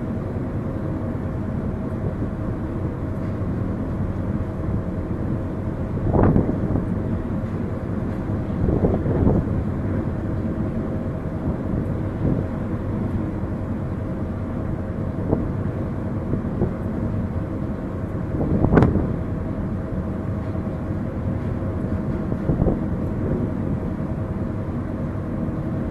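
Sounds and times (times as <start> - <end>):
ferry engine rumbling: 0.0 - 25.9.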